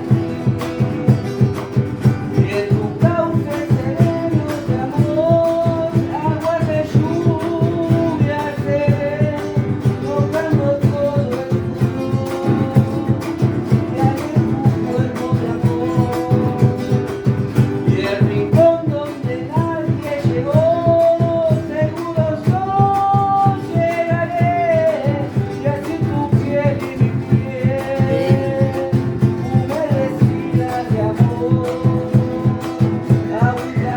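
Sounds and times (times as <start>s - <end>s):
person singing: 0.0s - 17.2s, 17.8s - 33.9s
guitar accompaniment: 0.0s - 33.9s.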